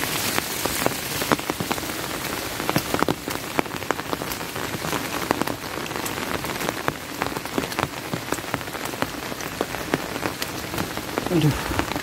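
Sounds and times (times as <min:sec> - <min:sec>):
raindrops tapping close by: 0:00.0 - 0:12.0
steady rain hiss: 0:00.0 - 0:12.0.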